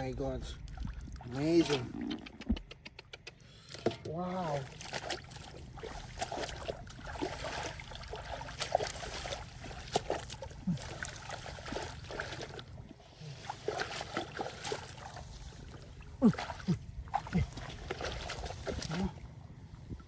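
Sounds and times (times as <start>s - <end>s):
hands splashing in muddy water: 3.3s - 19.5s.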